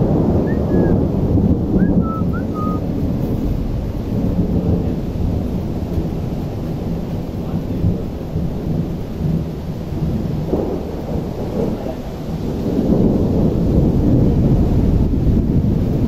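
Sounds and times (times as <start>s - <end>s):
thunder rumbling: 0.0s - 16.0s.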